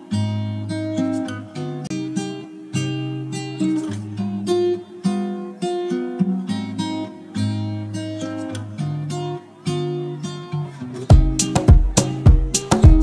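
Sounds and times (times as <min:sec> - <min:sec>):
acoustic guitar plucked chords: 0:00.0 - 0:13.0.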